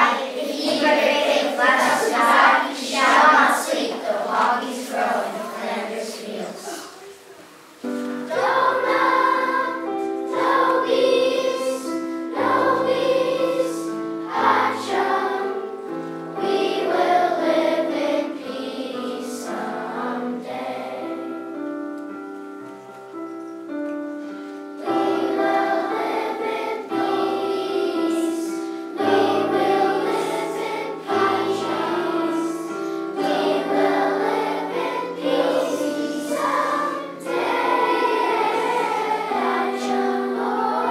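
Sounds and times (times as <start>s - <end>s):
children's choir singing: 0.0s - 40.9s.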